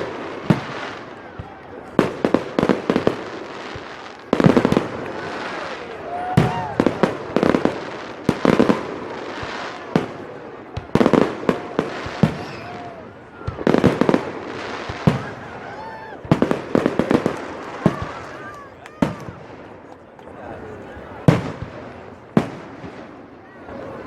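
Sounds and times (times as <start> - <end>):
fireworks exploding: 0.0 - 20.0, 21.0 - 24.0.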